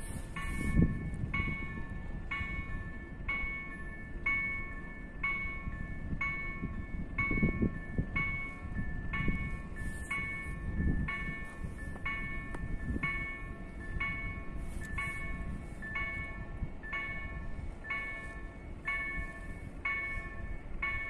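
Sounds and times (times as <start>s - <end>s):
level crossing bells ringing: 0.3s - 21.0s.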